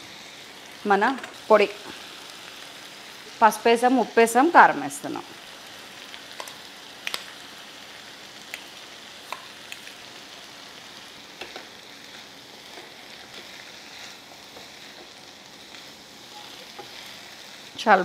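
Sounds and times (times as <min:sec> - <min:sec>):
vegetables sizzling in a pan: 0:00.0 - 0:18.0.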